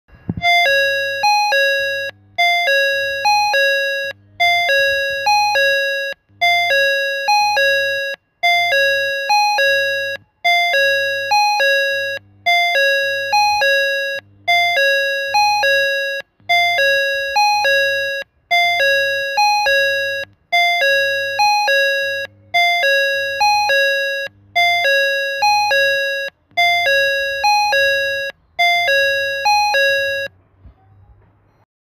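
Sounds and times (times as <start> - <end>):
electronic platform chime: 0.4 - 30.3.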